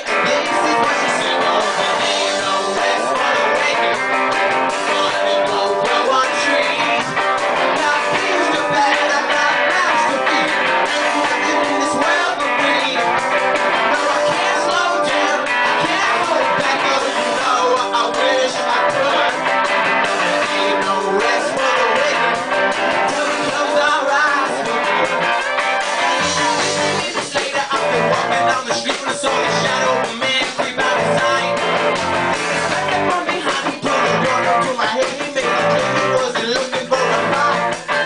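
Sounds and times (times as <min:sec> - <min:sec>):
person singing into a microphone: 0:00.0 - 0:25.4, 0:26.0 - 0:31.7, 0:32.9 - 0:38.0
rock band playing live: 0:00.0 - 0:38.0.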